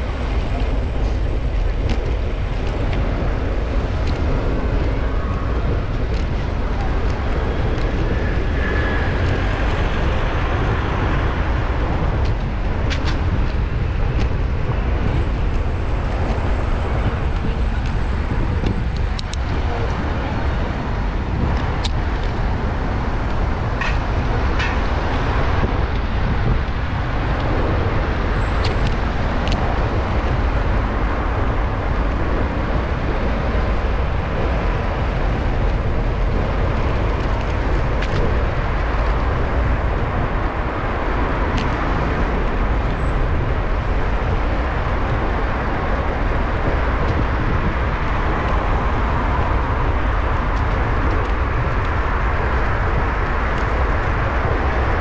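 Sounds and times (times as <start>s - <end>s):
street traffic: 0.0s - 55.0s
wind noise: 0.0s - 55.0s.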